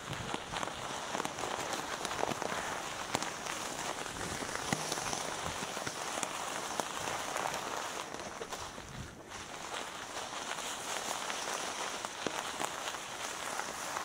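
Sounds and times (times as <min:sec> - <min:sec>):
bike tyres rolling on rough trail: 0:00.0 - 0:14.0.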